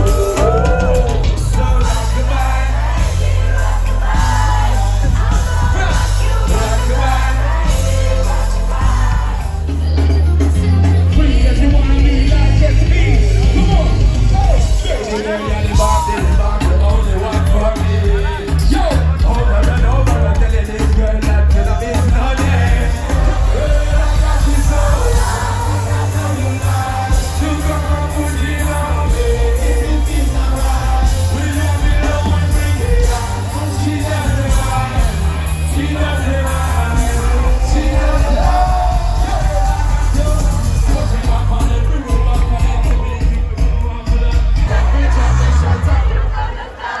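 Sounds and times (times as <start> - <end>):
heavy bass beat: 0.0 - 46.8
loud live concert music: 0.0 - 47.0
vocalist singing: 0.0 - 47.0.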